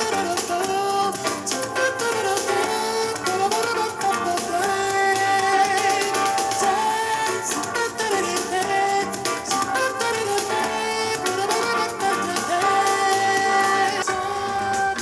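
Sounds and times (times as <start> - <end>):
song through portable speaker: 0.0 - 15.0.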